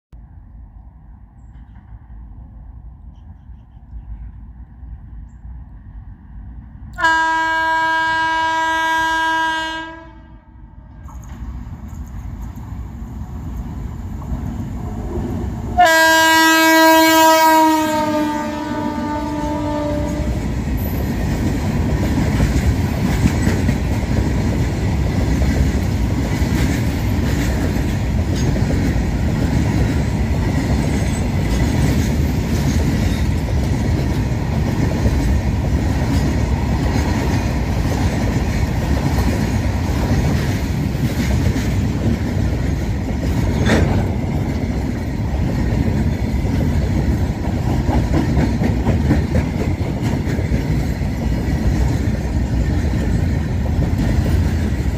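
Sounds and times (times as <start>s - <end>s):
train wheels rumbling on rail: 0.1s - 54.9s
clickety-clack over rail joints: 1.4s - 4.4s, 10.9s - 16.4s, 18.5s - 54.9s.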